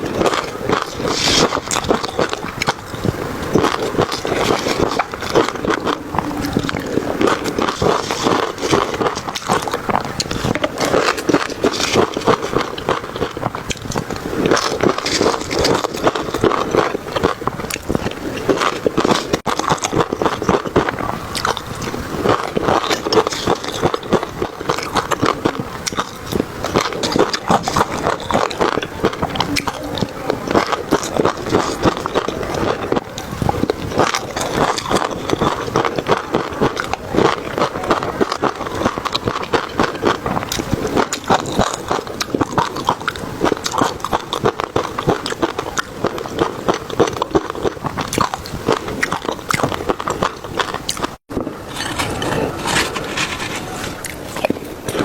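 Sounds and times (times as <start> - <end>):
mouth clicks: 0.0 - 51.2
wet chewing and crunching food: 0.0 - 55.0.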